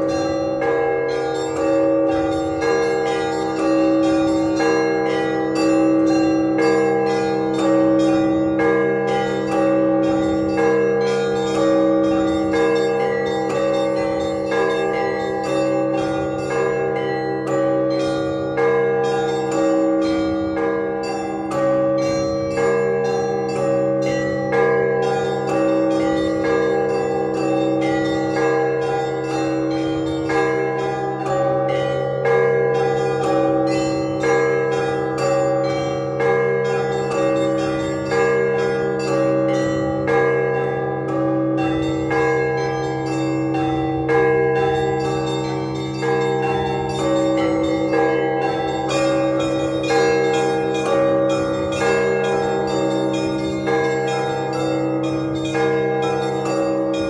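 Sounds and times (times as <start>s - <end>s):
smaller bells chiming: 0.0s - 57.0s.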